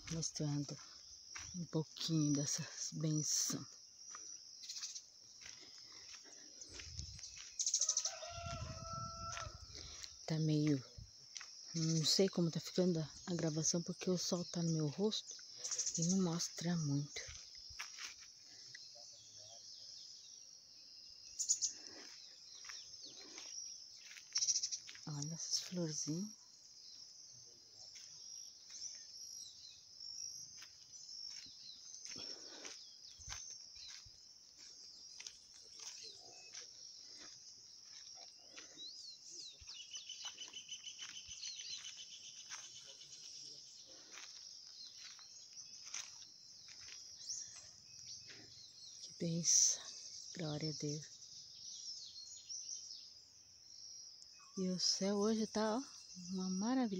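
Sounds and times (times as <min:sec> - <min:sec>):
insects buzzing: 0:00.0 - 0:56.9
bird chirping: 0:04.4 - 0:09.5, 0:11.7 - 0:17.8, 0:18.5 - 0:56.9.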